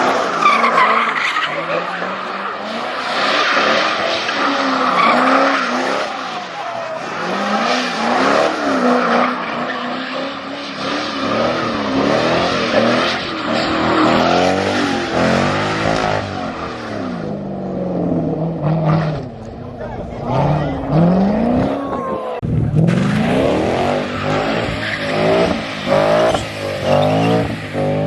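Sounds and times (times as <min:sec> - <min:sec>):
tires squealing: 0:00.0 - 0:17.4, 0:18.5 - 0:28.0
car engine revving: 0:00.0 - 0:28.0.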